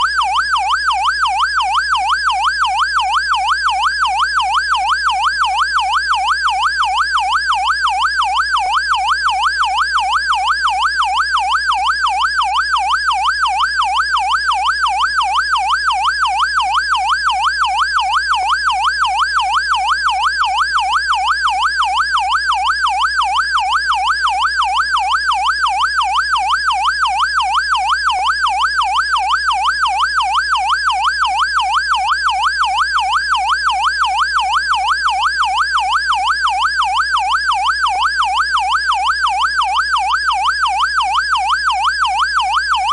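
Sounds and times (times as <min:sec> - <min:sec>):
police siren warble: 0:00.0 - 0:42.9.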